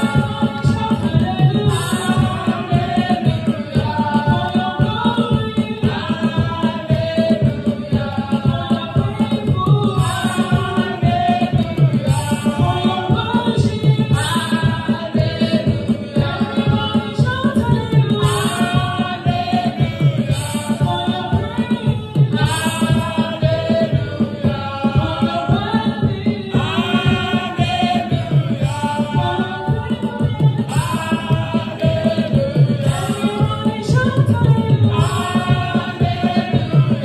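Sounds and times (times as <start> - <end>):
instrumental backing with steady beat: 0.0 - 37.0
women singing through microphones: 0.0 - 37.0.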